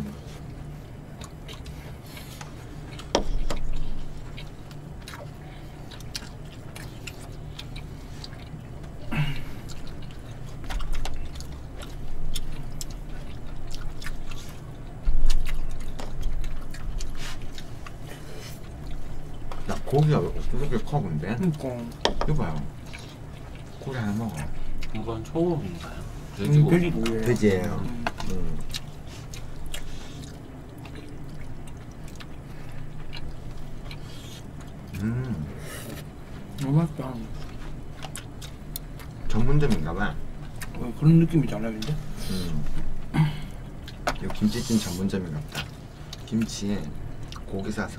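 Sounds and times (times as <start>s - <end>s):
chewing: 0.0s - 47.9s
steady low hum: 0.0s - 47.9s.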